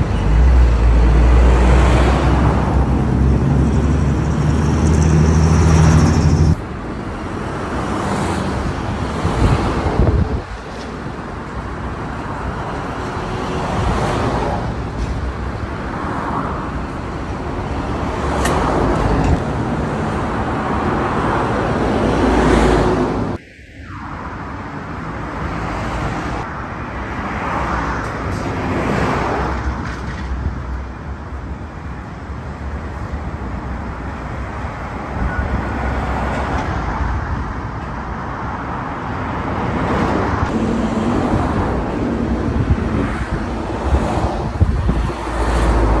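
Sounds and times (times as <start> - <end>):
trucks passing by: 0.0 - 46.0.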